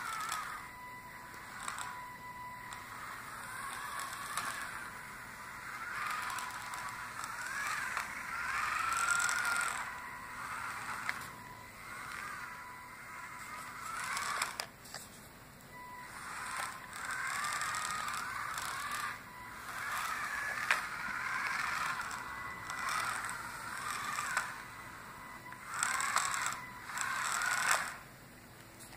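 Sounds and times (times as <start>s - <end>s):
small gear motors whining: 0.0s - 28.9s.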